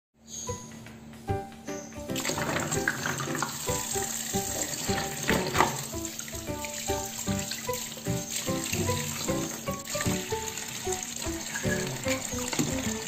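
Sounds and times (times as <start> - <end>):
light background music: 0.2 - 13.0
tap water running into basin: 2.2 - 13.0.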